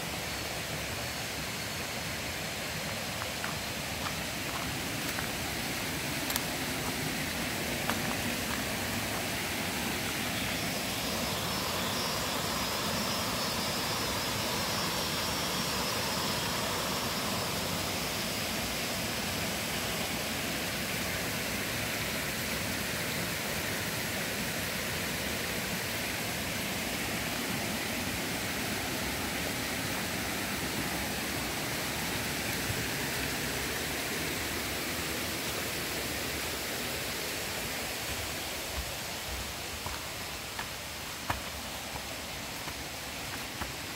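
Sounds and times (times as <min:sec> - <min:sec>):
faint high buzz: 0:00.0 - 0:43.9
stream rushing: 0:00.0 - 0:43.9.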